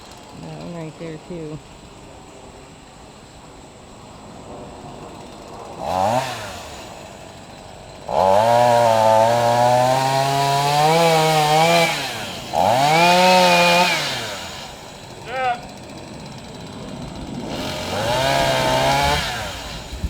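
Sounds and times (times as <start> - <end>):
chainsaw engine revving: 0.0 - 2.1, 3.9 - 20.0.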